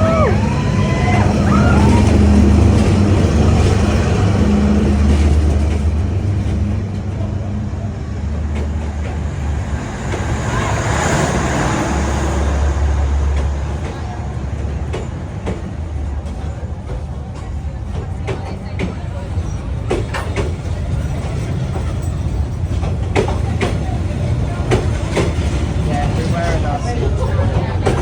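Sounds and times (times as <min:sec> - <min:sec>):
diesel train passing: 0:00.0 - 0:28.0.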